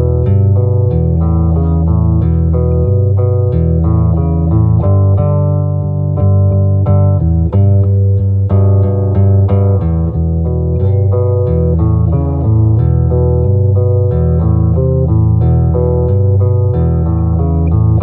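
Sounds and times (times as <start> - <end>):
bass-heavy electric guitar: 0.0 - 18.0.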